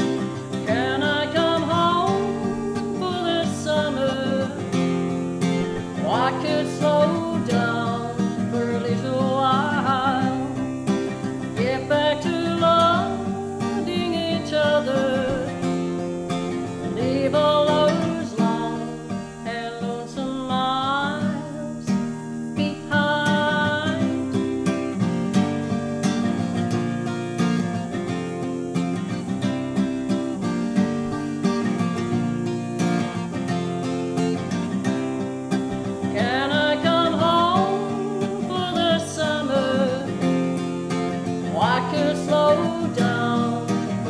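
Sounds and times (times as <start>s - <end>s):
strummed acoustic guitar: 0.0s - 44.0s
woman singing folk song: 0.0s - 44.0s.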